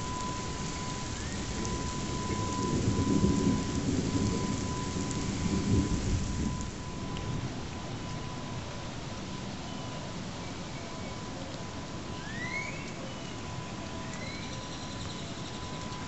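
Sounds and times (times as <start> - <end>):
distant warning siren: 0.0 - 16.0.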